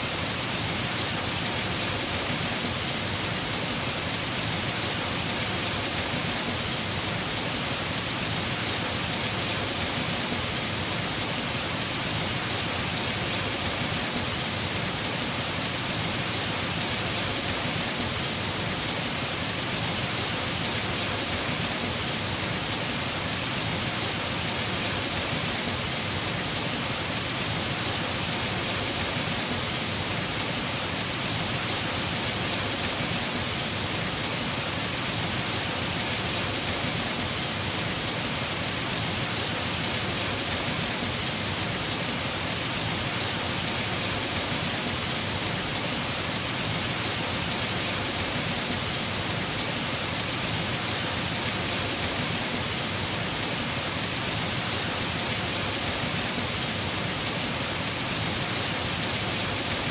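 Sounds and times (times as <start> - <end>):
heavy rain on roof: 0.0 - 59.9.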